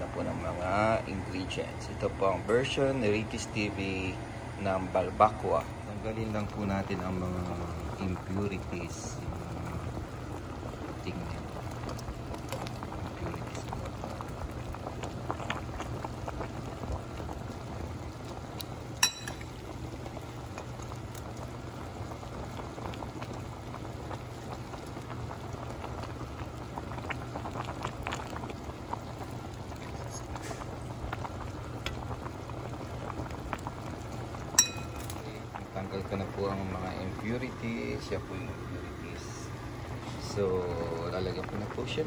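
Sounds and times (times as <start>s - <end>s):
broth boiling in a pot: 0.0s - 42.0s.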